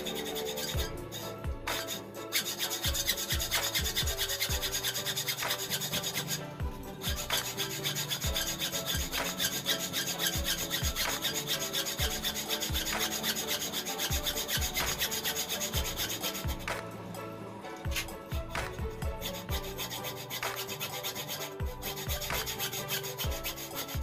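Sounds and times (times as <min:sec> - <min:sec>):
hacksaw cutting metal: 0:00.0 - 0:24.0.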